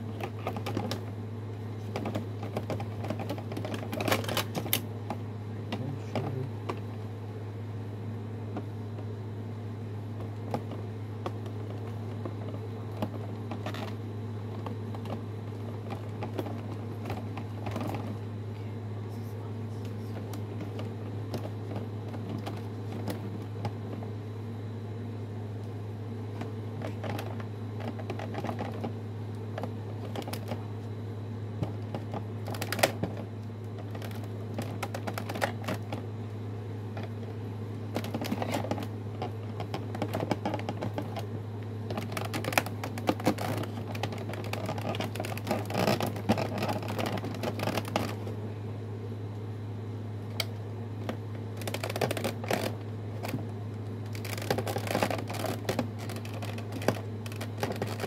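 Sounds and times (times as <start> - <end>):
cardboard and plastic rustling: 0.0 - 7.0, 10.1 - 18.3, 19.1 - 24.2, 26.3 - 31.0, 31.6 - 36.2, 36.9 - 48.4, 50.4 - 58.0
low hum: 0.0 - 58.0.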